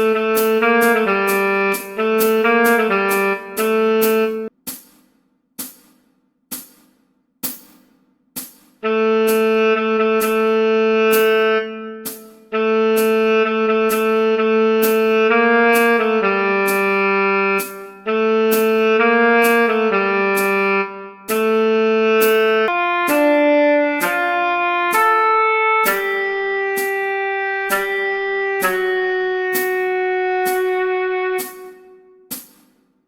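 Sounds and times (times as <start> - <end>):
tenor saxophone long notes: 0.0 - 4.5, 8.8 - 32.3
sharp metronome clicks: 0.0 - 32.9.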